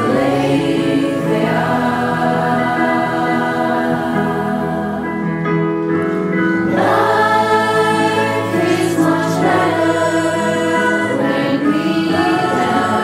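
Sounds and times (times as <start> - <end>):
youth choir singing: 0.0 - 5.4, 6.6 - 13.0.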